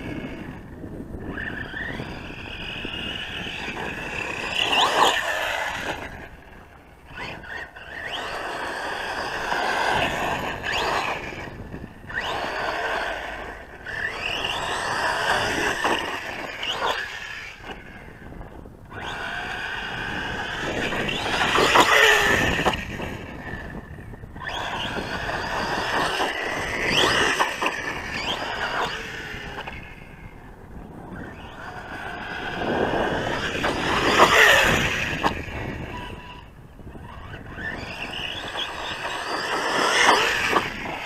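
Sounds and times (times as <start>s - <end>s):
rc truck electric motor whining: 0.0s - 41.0s.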